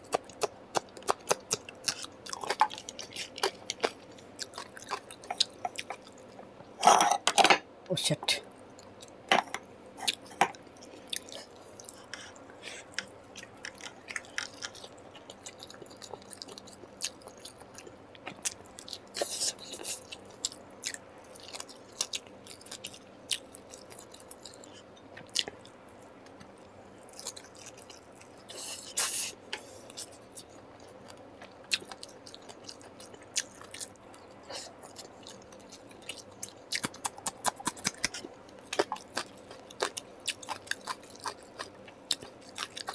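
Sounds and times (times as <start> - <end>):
man chewing food: 0.0 - 7.2, 8.6 - 42.9.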